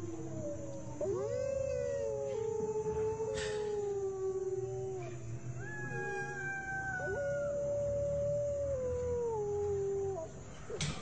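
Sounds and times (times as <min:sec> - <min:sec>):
eerie drawn-out howling: 0:00.0 - 0:11.0.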